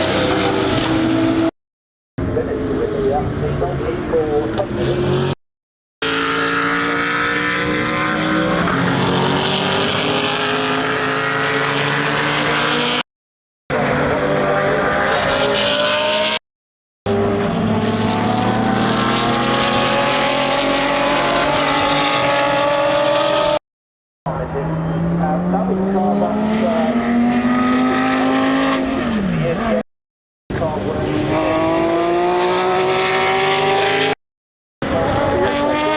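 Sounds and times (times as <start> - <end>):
racing car engines at full throttle: 0.0 - 1.5, 2.2 - 5.4, 6.0 - 13.1, 13.7 - 16.4, 17.1 - 23.6, 24.3 - 29.8, 30.5 - 34.2, 34.8 - 35.9.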